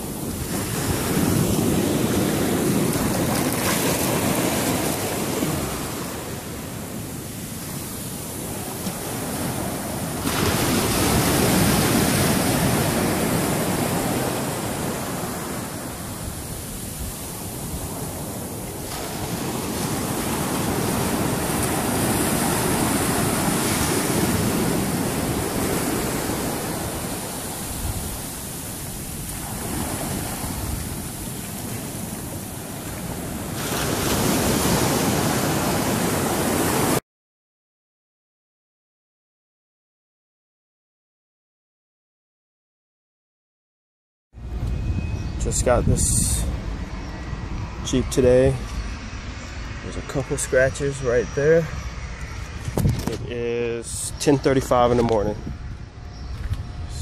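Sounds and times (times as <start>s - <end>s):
ocean surf washing ashore: 0.0s - 37.0s, 45.4s - 57.0s.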